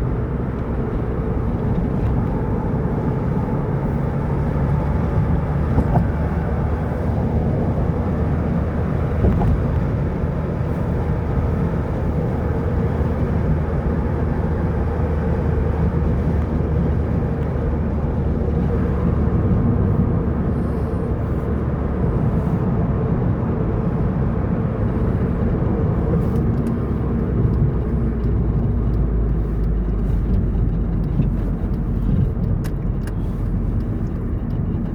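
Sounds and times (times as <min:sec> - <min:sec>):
car engine hum: 0:00.0 - 0:34.9
road noise: 0:00.0 - 0:34.9.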